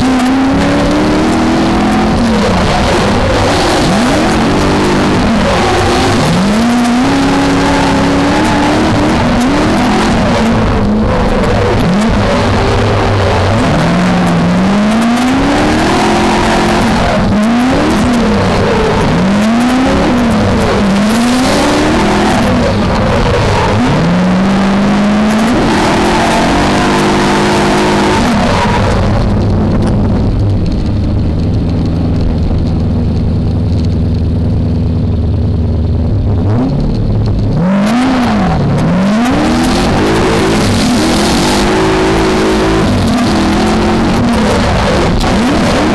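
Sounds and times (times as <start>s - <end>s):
loud rushing noise: 0.0s - 33.8s, 35.6s - 45.9s
car engine revving: 0.0s - 45.9s.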